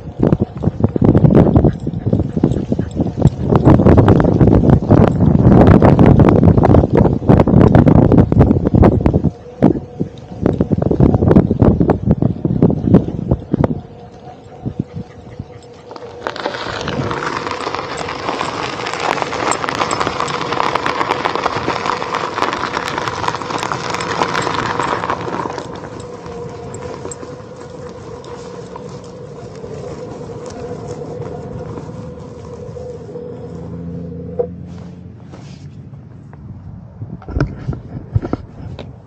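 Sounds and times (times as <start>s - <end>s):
board tire crunching over gravel: 0.0s - 13.5s, 14.9s - 36.5s.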